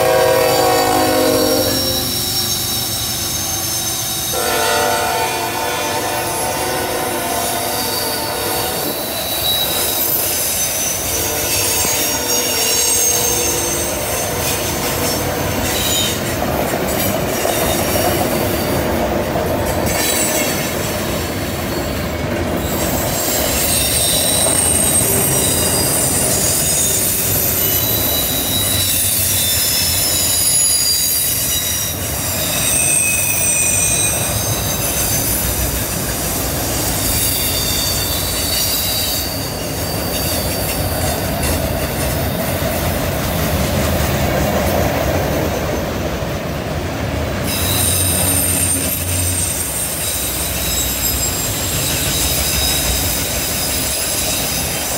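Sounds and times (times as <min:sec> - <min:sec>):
high wheel squeals: 0:00.0 - 0:16.4, 0:19.8 - 0:43.6, 0:47.4 - 0:54.9
train wheels rumbling on rails: 0:00.0 - 0:54.9.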